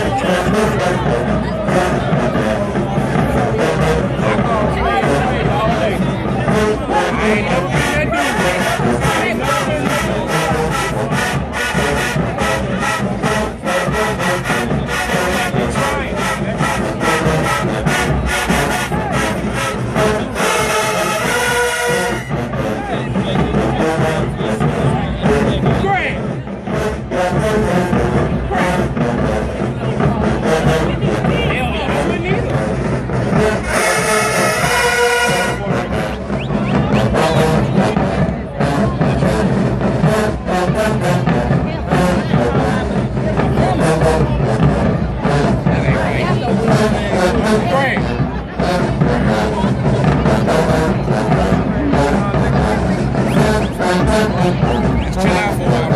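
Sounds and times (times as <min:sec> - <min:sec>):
fast drum beat: 0:00.0 - 0:55.9
marching band horns: 0:00.0 - 0:55.9.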